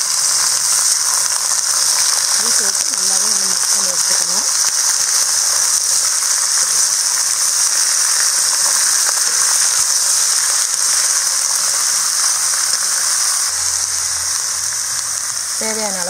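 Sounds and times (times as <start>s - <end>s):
potatoes sizzling in hot oil: 0.0s - 16.0s.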